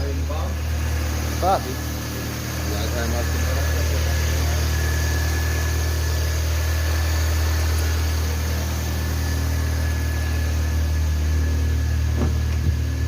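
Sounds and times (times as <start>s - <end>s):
engine idling with high whine: 0.0s - 13.0s.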